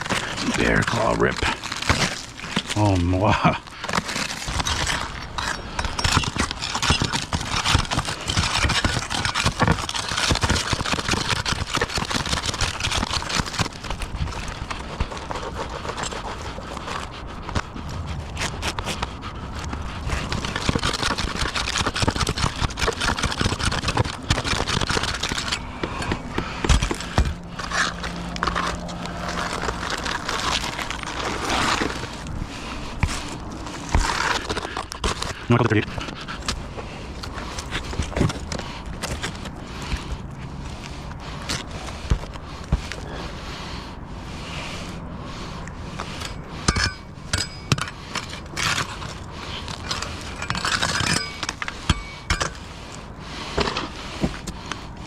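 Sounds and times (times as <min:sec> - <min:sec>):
scraping and rustling: 0:00.0 - 0:55.0.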